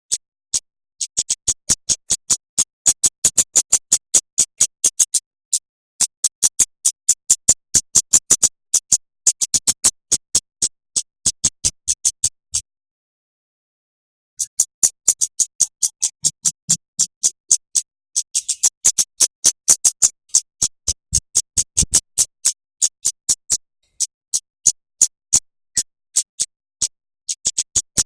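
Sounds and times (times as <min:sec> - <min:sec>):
rapid sharp bird clicking notes: 0:00.1 - 0:05.3, 0:06.0 - 0:12.3, 0:14.4 - 0:28.0.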